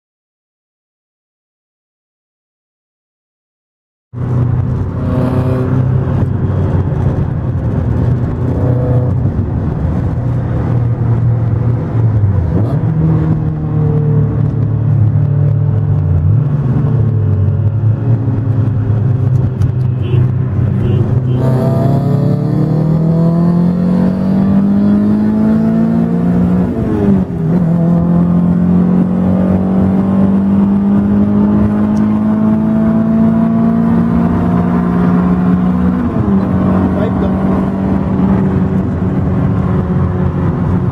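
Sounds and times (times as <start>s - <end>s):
car engine revving: 4.2s - 40.9s.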